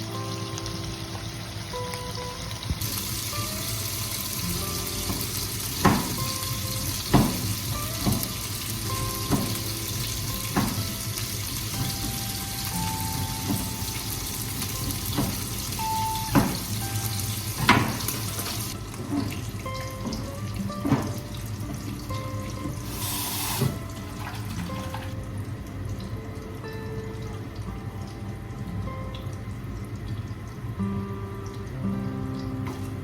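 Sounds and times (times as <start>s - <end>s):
running water: 0.0s - 33.0s
soft background music: 0.0s - 33.0s.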